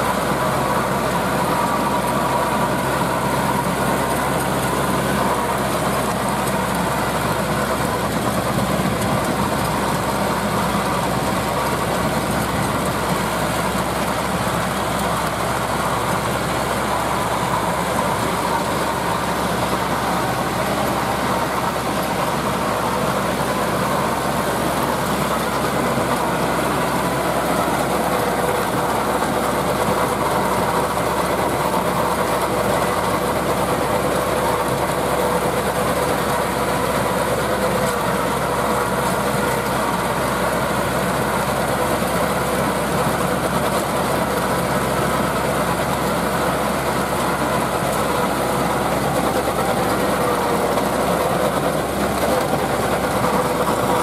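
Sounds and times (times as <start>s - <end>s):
rotary tiller churning soil: 0.0s - 54.0s
tractor diesel engine running: 0.0s - 54.0s.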